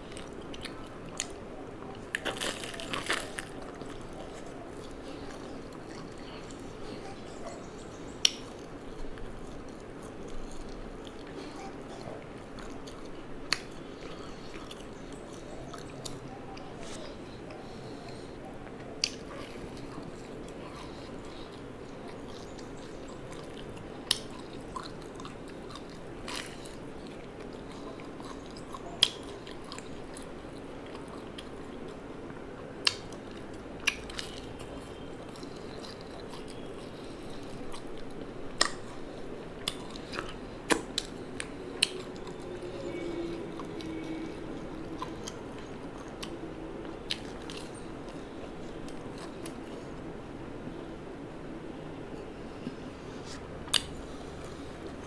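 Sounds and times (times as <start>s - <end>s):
person chewing food: 0.0s - 50.2s, 52.1s - 55.0s
low background hum: 0.0s - 55.0s.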